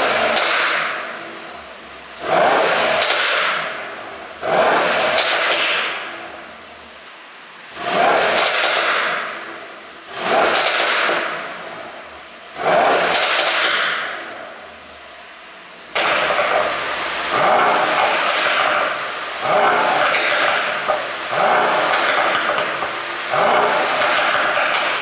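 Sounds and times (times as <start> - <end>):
exhaust popping and crackling: 0.0 - 6.6, 7.6 - 14.8, 15.8 - 25.0
engine revving throttle blips: 0.0 - 25.0.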